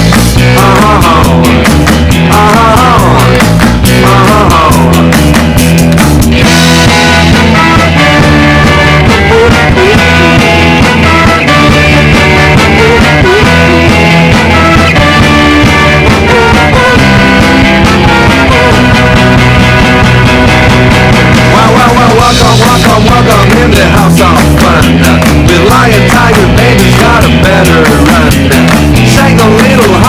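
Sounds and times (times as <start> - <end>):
rock music with guitar and keyboard: 0.0 - 30.0.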